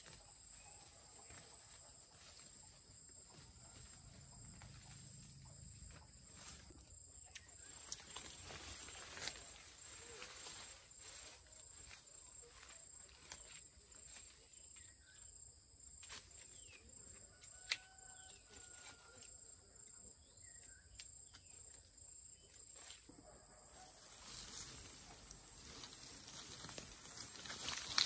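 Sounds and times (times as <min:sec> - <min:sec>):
high insect whine: 0:00.0 - 0:28.0.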